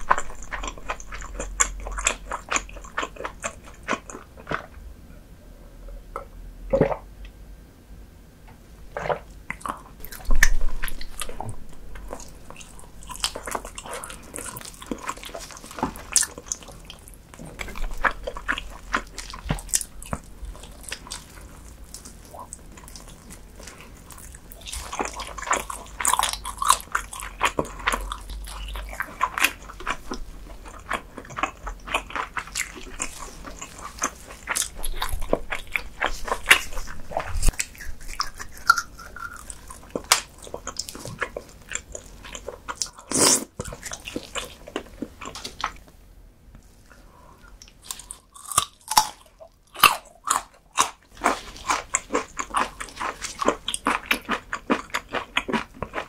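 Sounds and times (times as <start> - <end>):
person chewing sticky meat: 0.0 - 4.8, 9.0 - 45.8, 46.9 - 56.0.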